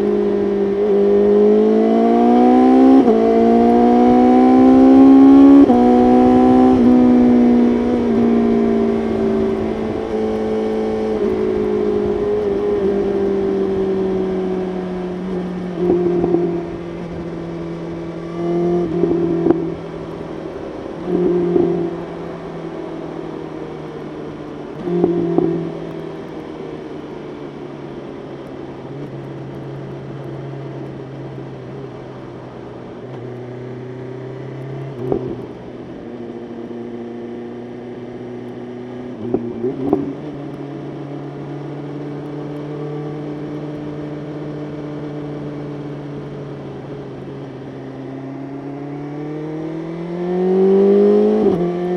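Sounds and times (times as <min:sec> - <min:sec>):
motorcycle engine at speed: 0:00.0 - 0:51.9.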